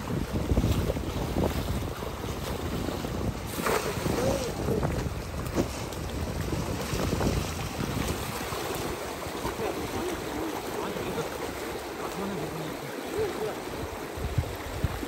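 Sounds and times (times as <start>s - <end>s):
river water rushing: 0.0s - 15.0s
wind rumbling on microphone: 0.0s - 15.0s.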